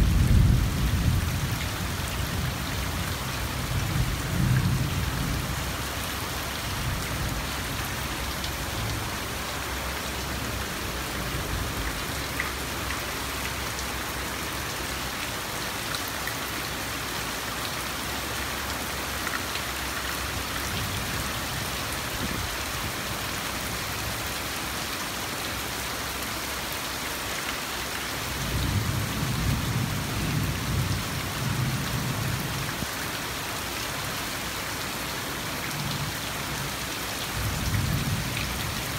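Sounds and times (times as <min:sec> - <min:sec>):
rain on foliage and paving: 0:00.0 - 0:38.9.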